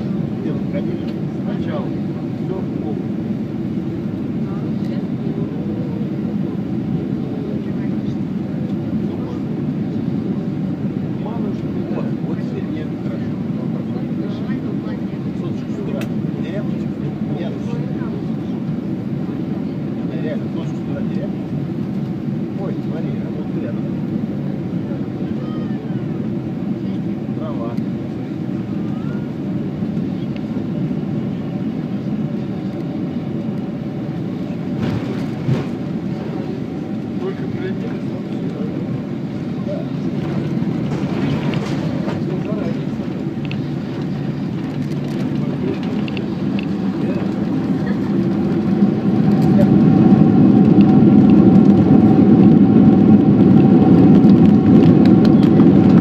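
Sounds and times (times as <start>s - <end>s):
airliner engines and wheels rumbling: 0.0s - 56.0s.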